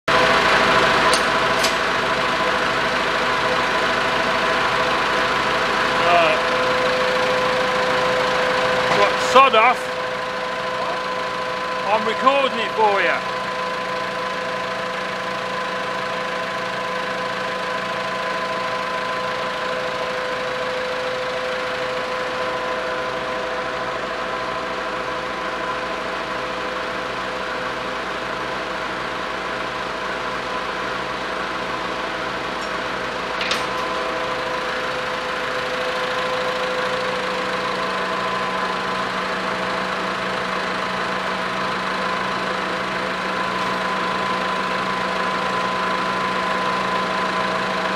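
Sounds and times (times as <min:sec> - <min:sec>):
machine humming: 0:00.1 - 0:24.7, 0:31.9 - 0:47.9.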